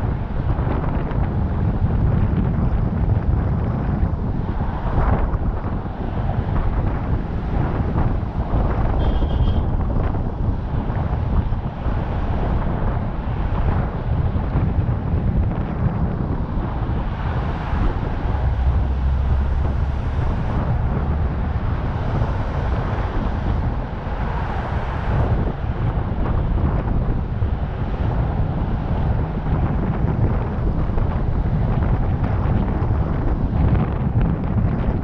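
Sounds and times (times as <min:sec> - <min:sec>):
road and traffic noise: 0:00.0 - 0:35.0
wind buffeting microphone: 0:00.0 - 0:35.0.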